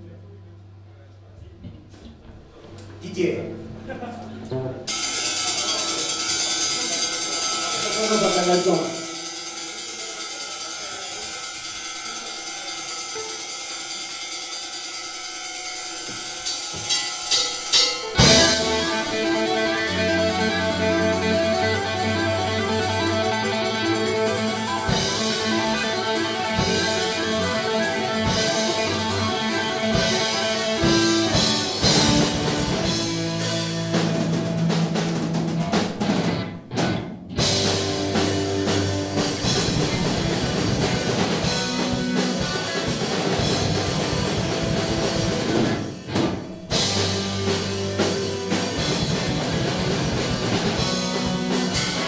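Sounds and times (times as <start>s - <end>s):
punk rock band playing: 4.8s - 13.6s, 15.4s - 52.0s.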